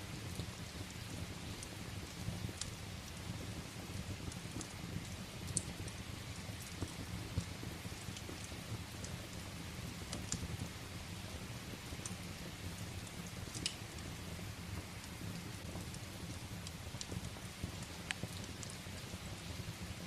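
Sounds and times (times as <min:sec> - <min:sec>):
burning firewood crackling: 0:00.0 - 0:20.0
steady rain: 0:00.0 - 0:20.0.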